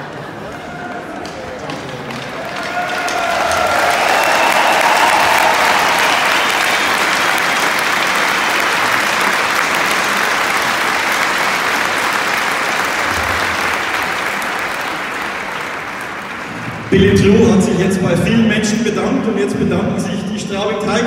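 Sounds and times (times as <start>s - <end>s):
arena crowd applauding: 0.0s - 18.4s.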